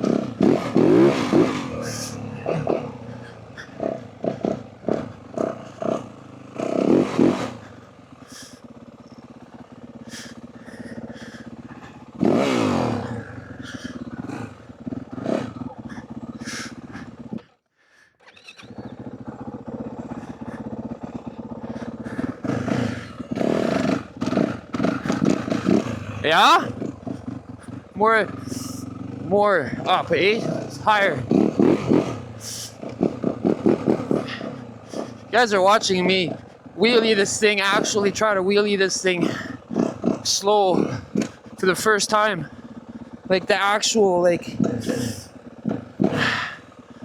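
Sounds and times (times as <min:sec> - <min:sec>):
dirt bike engine revving: 0:00.0 - 0:17.6, 0:18.2 - 0:47.0.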